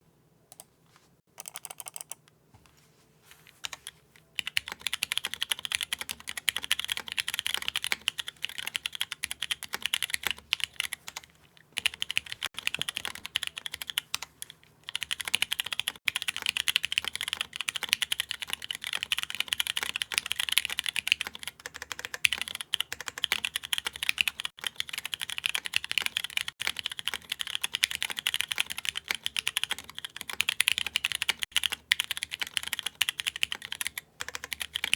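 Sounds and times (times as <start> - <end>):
mechanical keyboard typing: 1.4 - 2.2, 3.6 - 34.9.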